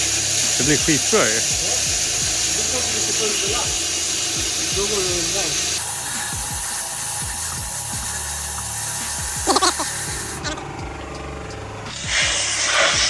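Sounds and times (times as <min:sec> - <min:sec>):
music with steady beat: 0:00.0 - 0:13.0
steady hissing noise: 0:00.0 - 0:13.0.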